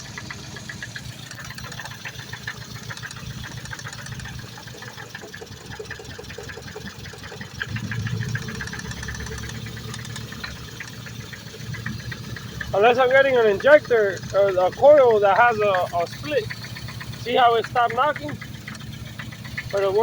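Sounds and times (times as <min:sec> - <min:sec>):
car engine idling: 0:00.0 - 0:20.0
rapid engine ticking knock: 0:00.0 - 0:20.0.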